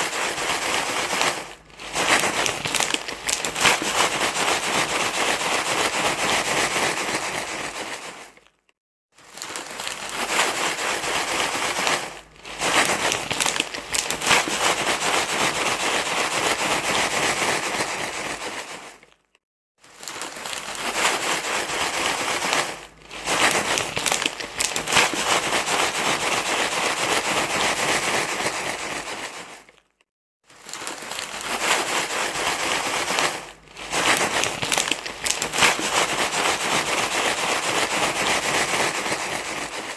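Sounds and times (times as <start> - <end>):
crinkling rustling noise: 0.0 - 39.9.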